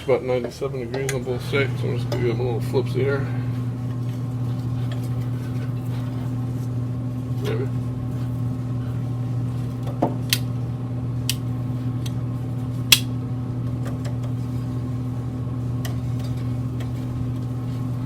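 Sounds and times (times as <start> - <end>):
smoker fan humming: 0.0 - 18.0.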